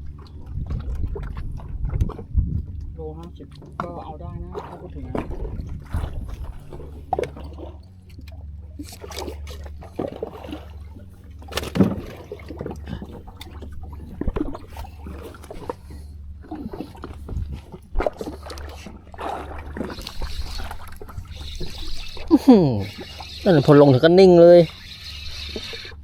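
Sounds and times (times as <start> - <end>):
boat engine idling: 0.0 - 26.0
knocks and clatter on boat: 0.0 - 26.0.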